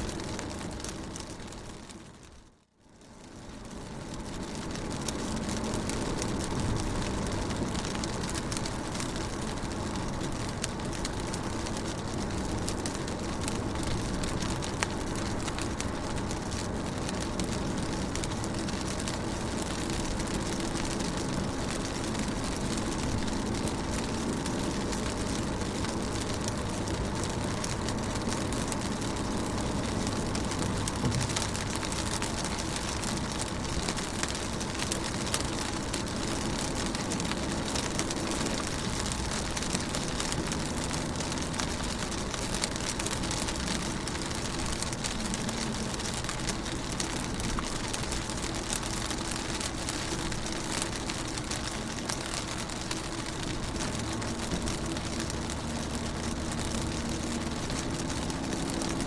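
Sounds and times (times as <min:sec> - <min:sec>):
rain on a car window: 0:00.0 - 0:59.0.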